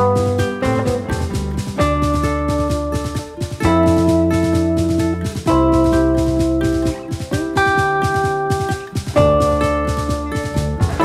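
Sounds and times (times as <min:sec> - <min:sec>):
drum beat: 0:00.0 - 0:11.0
held chords: 0:00.0 - 0:11.0.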